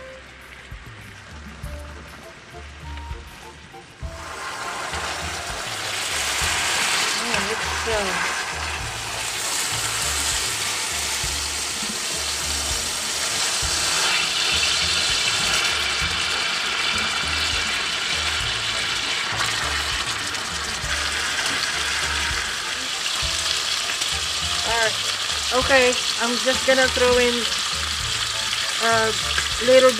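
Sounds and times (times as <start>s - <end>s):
meat sizzling in a hot pan: 4.0s - 29.9s.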